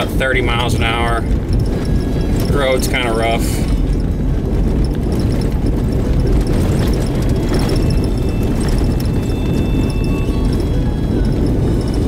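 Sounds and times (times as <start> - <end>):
tyre and suspension rumble: 0.0 - 12.0.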